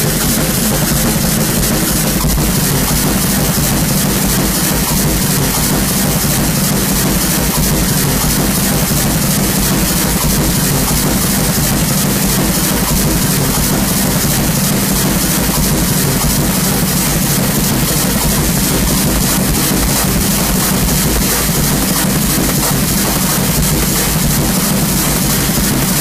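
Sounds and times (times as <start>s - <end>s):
electronic hiss: 0.0s - 26.0s.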